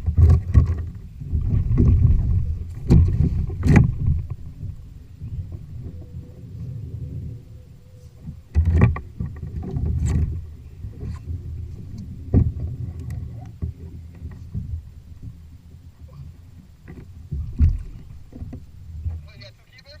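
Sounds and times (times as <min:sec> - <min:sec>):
knocks and rustling against kayak: 0:00.0 - 0:20.0
wind and water rumble: 0:00.0 - 0:20.0.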